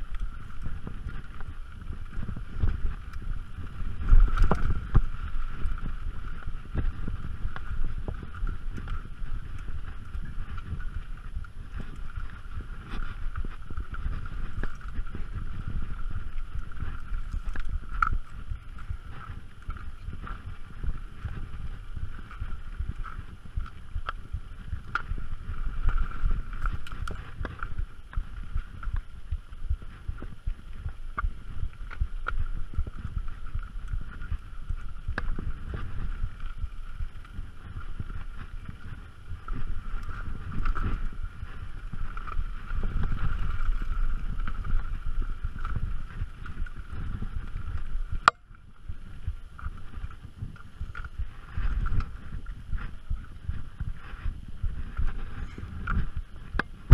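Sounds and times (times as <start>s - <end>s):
bike rattling and clicking: 0.0s - 56.9s
bike tyres rumbling on dirt: 0.0s - 56.9s
wind on microphone: 0.0s - 56.9s.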